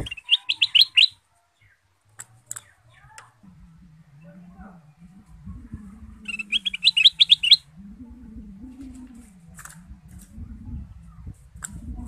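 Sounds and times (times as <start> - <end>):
faint bird chirps: 0.0 - 10.1.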